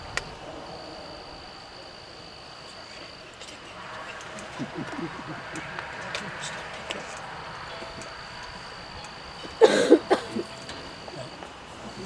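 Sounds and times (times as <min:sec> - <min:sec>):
low steady background: 0:00.0 - 0:12.0.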